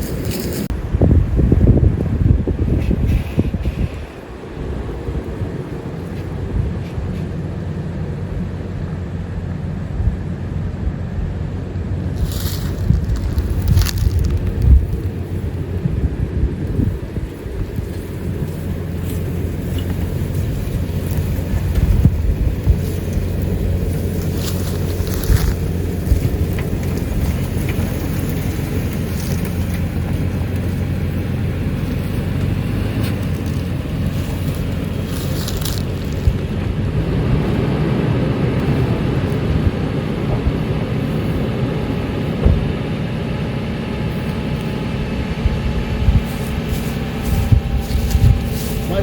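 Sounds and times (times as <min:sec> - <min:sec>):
vehicle engine humming: 0:00.0 - 0:49.0.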